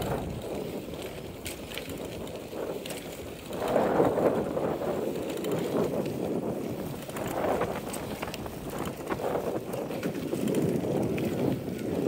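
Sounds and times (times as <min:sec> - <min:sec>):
bicycle freewheel ticking: 0:00.0 - 0:12.0
tyre and wind rush: 0:00.0 - 0:12.0.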